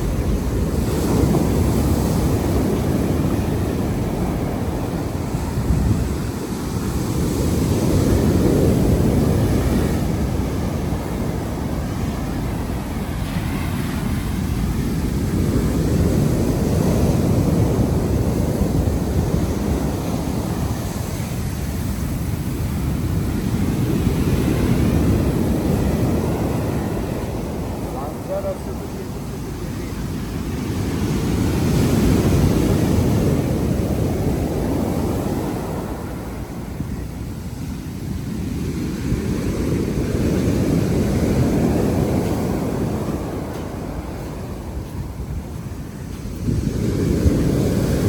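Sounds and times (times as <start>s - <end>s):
sea waves washing onto beach: 0.0s - 48.0s
wind buffeting microphone: 0.0s - 48.0s.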